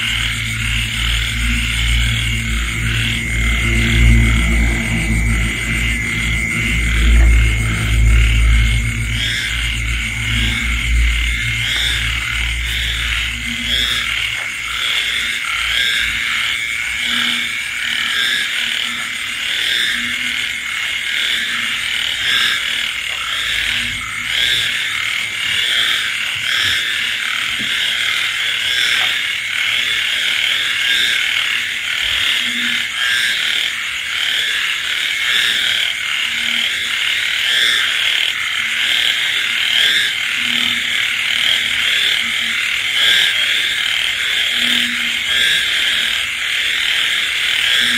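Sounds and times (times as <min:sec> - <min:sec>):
chorus of frogs calling: 0:00.0 - 0:47.9
deep frog call: 0:00.0 - 0:47.9
high insect trill: 0:00.0 - 0:47.9.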